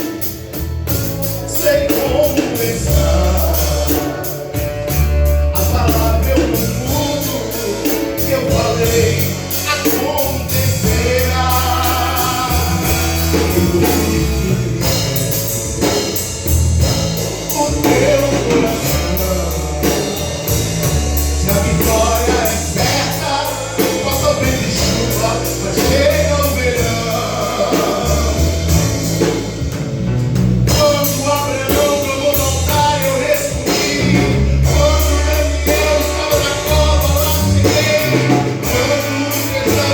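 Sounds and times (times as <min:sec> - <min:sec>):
gospel band with singing: 0:00.0 - 0:39.9.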